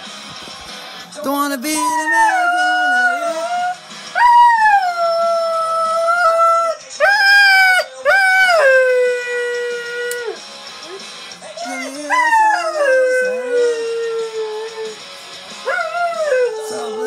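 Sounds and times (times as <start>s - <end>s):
person singing: 1.2s - 15.0s, 15.6s - 17.0s
dog howling: 1.7s - 11.0s, 11.6s - 15.0s, 15.6s - 17.0s.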